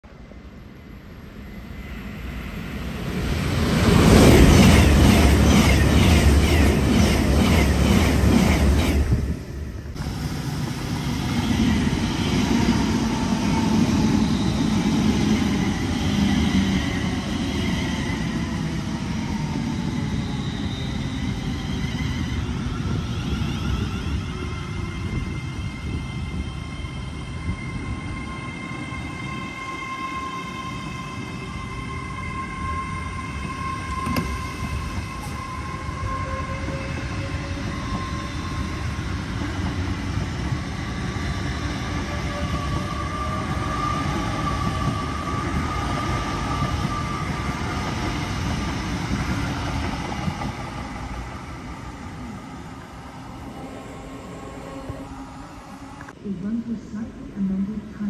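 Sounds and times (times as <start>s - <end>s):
electric train rumbling past: 0.1s - 58.0s
train whine: 0.1s - 58.0s.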